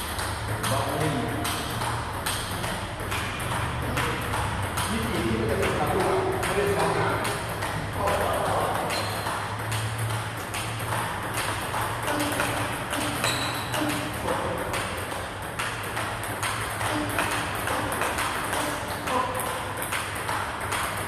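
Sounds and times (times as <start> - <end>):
ball bouncing on table: 0.0 - 21.0
table tennis ball hits: 0.0 - 21.0.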